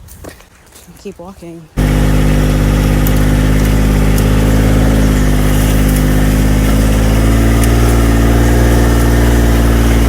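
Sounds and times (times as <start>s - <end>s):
engine running steadily: 1.8s - 10.0s.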